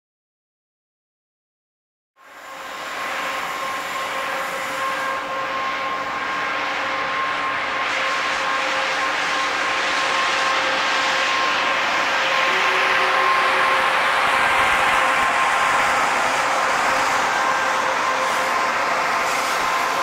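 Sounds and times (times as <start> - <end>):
electric locomotive whine: 2.2 - 20.0
train wagons rolling on rails: 2.2 - 20.0.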